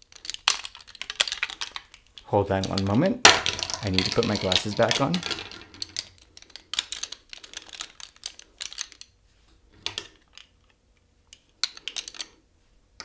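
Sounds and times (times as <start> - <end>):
plastic eyeglass frames clicking: 0.0 - 3.0, 3.7 - 9.2, 9.8 - 12.4.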